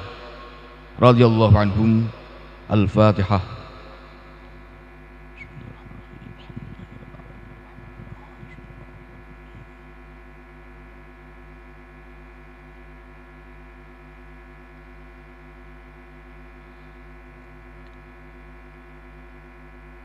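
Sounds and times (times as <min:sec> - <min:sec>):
electrical hum from sound system: 0:00.0 - 0:20.0.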